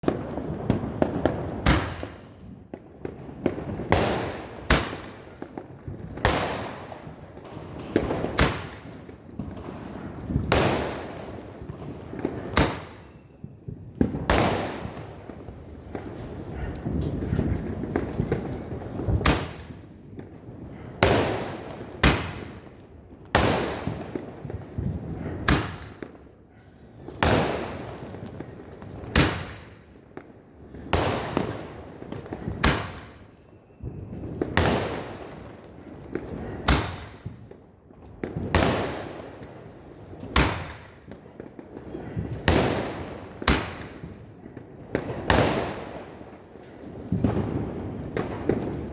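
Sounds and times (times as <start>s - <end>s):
fireworks bangs: 0.0s - 26.2s, 27.1s - 48.9s.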